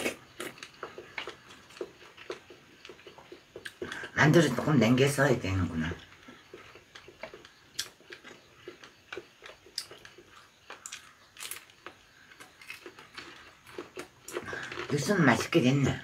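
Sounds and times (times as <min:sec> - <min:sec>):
crunchy chewing of fried food: 0:00.0 - 0:16.0.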